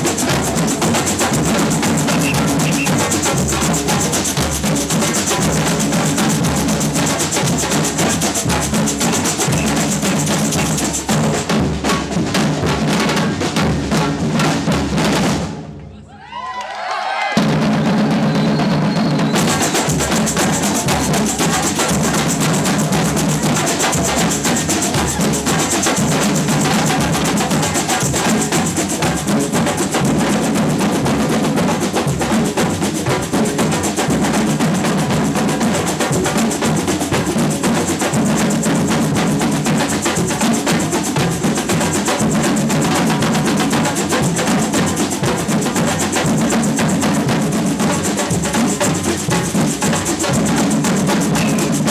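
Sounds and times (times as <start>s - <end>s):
bass drums beating: 0.0s - 15.4s, 17.4s - 51.9s
snare drums beating: 0.0s - 15.6s, 17.3s - 51.9s.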